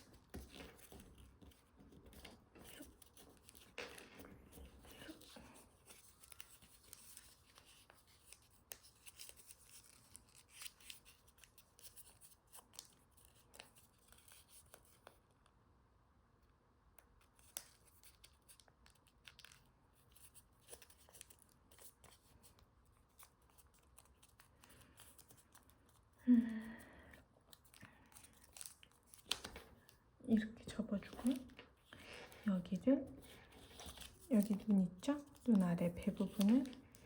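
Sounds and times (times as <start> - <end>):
paper rustling and crackling: 0.0 - 15.2, 17.3 - 26.2, 27.4 - 30.0, 30.7 - 37.0.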